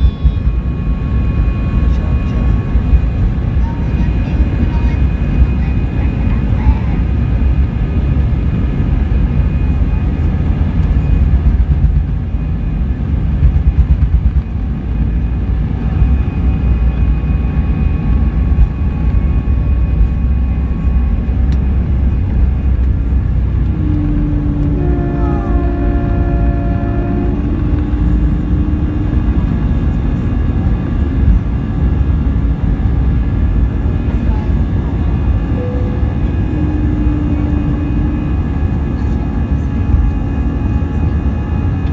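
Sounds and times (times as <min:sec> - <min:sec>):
cluster of steady tones: 0:00.0 - 0:41.9
jet engines rumbling and whining: 0:00.0 - 0:41.9.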